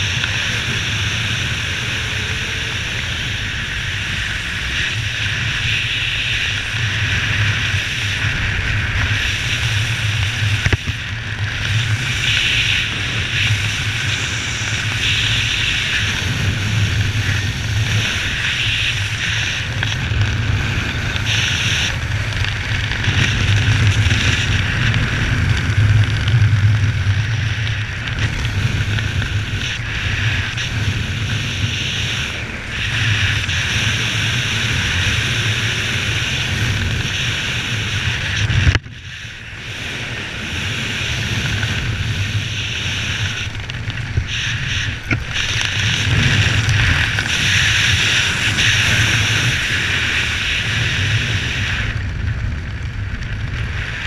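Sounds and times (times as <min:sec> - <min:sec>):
wind rushing on microphone: 0:00.0 - 0:54.0.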